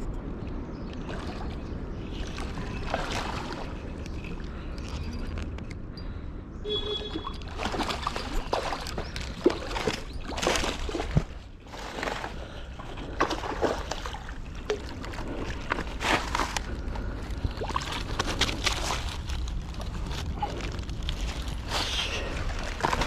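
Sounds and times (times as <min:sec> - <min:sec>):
water sloshing and splashing: 0:00.4 - 0:05.8, 0:06.8 - 0:23.0.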